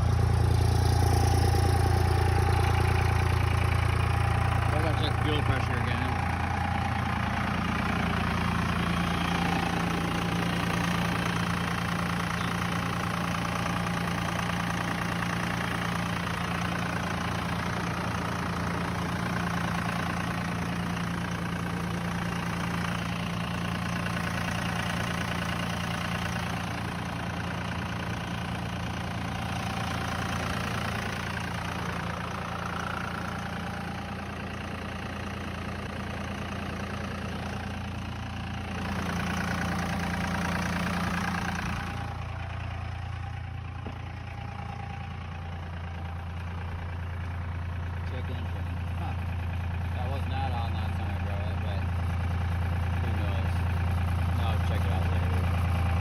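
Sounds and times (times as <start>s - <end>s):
diesel engine high idle: 0.0s - 56.0s.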